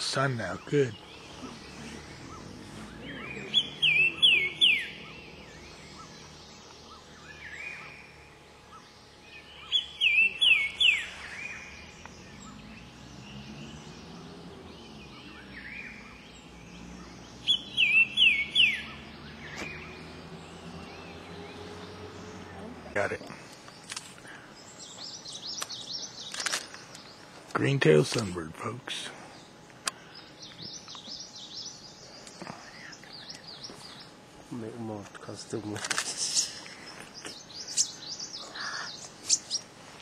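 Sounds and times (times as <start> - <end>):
songbird singing: 0.0 - 40.0.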